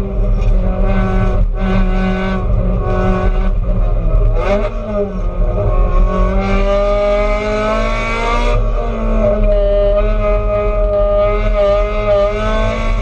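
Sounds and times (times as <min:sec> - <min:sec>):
race car engine under load: 0:00.0 - 0:13.0.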